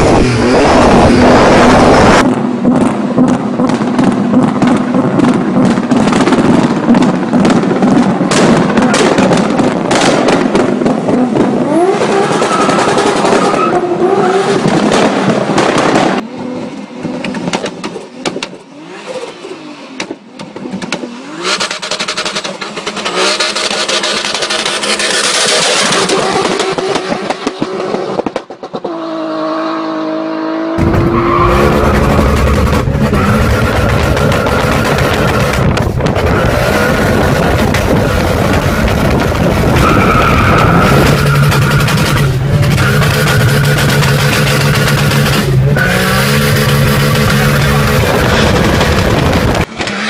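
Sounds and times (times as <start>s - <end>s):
turbo car engine revving: 0.0s - 50.0s.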